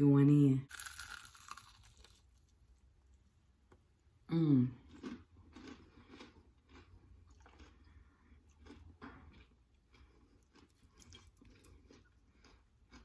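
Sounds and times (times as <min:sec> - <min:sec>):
faint chewing of crispy food: 0:00.7 - 0:03.8, 0:04.6 - 0:13.0.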